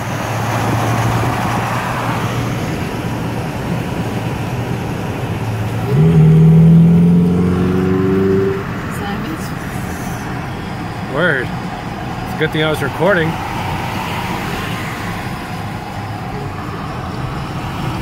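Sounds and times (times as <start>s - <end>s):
road and wind noise: 0.0s - 18.0s
sports car engine accelerating: 0.2s - 18.0s.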